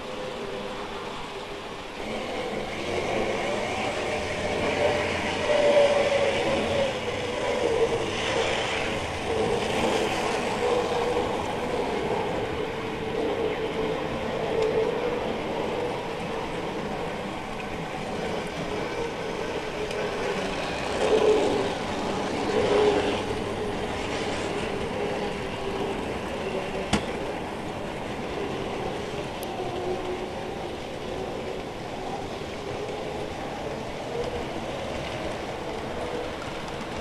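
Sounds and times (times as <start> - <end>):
wheels rattling over rails: 0.0 - 37.0.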